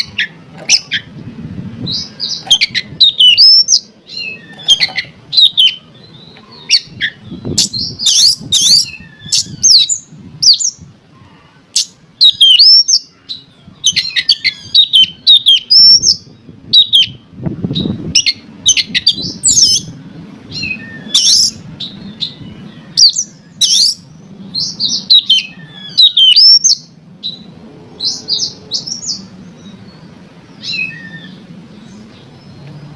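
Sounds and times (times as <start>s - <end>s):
bird singing loudly: 1.8s - 10.8s, 11.8s - 29.8s, 30.5s - 32.6s.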